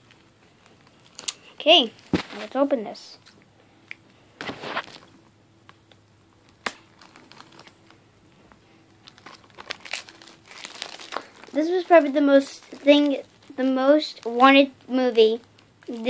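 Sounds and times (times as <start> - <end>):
plastic wrapping crinkling and tearing: 0.0 - 2.7, 4.4 - 8.0, 8.9 - 16.0.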